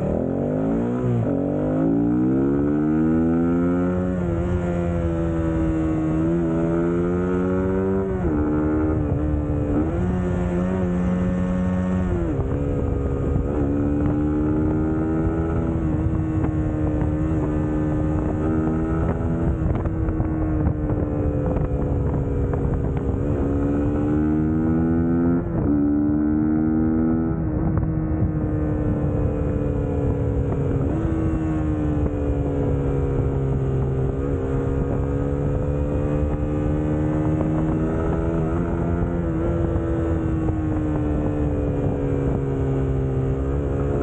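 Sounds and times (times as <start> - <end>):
motorcycle engine revving: 0.0 - 44.0
wind on microphone: 0.0 - 44.0.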